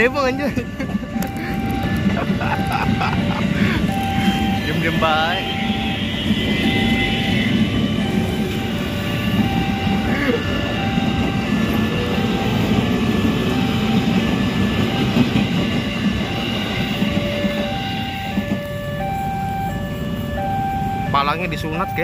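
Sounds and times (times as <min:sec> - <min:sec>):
train wheels on rails: 0:00.0 - 0:18.8
level-crossing alarm tones: 0:00.0 - 0:22.0.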